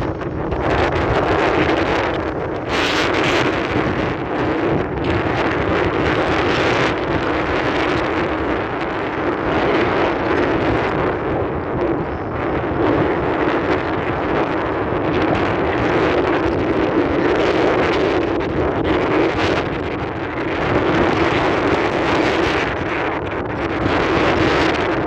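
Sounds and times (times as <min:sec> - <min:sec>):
airplane engines rushing: 0:00.0 - 0:25.0
wind buffeting microphone: 0:00.0 - 0:25.0.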